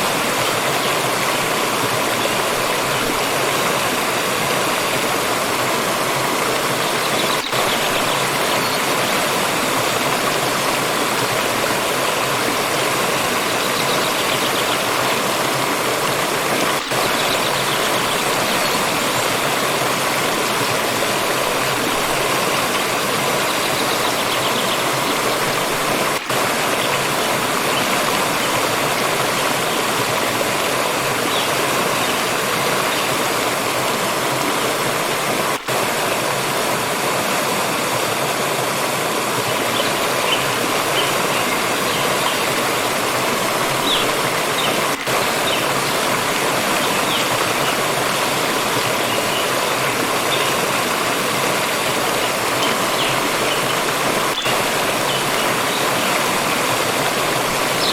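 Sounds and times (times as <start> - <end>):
water stream rushing: 0.0 - 57.9.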